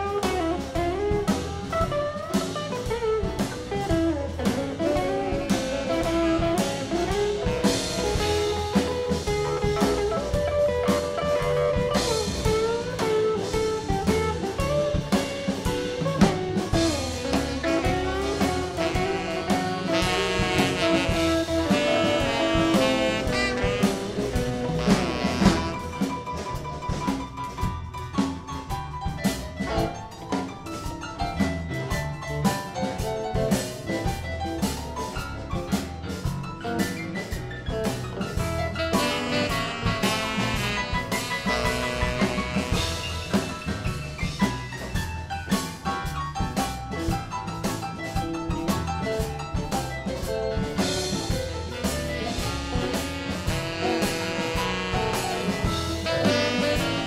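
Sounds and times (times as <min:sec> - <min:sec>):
live band playing blues-jazz: 0:00.0 - 0:57.0.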